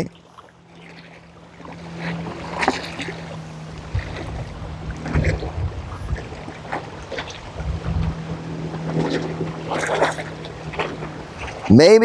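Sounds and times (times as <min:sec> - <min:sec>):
motorboat engine hum: 0:00.0 - 0:12.0
wind buffeting microphone: 0:01.9 - 0:11.8.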